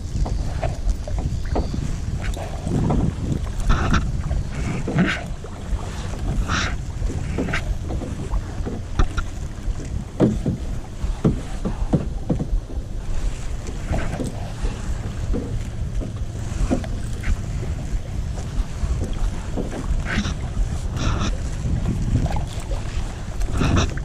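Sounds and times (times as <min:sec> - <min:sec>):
paddle splashing in water: 0:00.0 - 0:24.0
wind rumble on microphone: 0:00.0 - 0:24.0.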